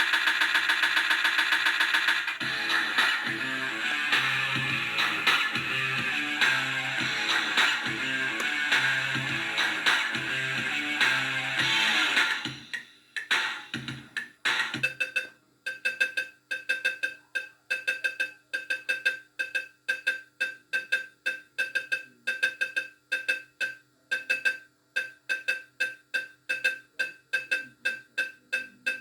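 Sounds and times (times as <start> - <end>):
fruit machine music jingle: 2.4 - 29.0.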